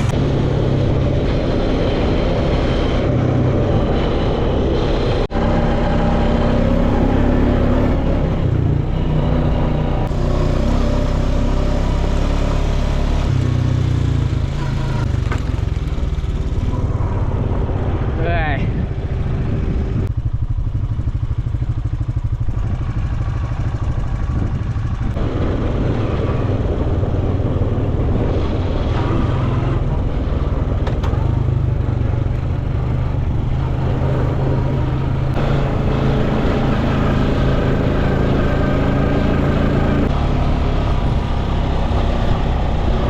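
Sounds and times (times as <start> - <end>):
quad bike engine running: 0.0 - 43.0.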